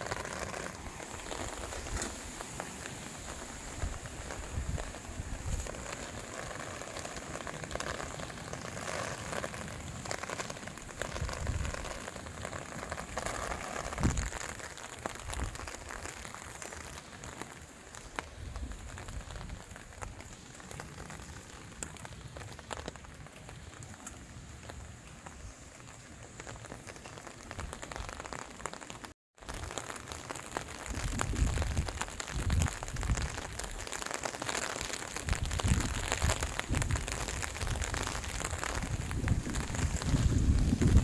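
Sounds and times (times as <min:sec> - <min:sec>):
light rain pattering: 0:00.0 - 0:41.0.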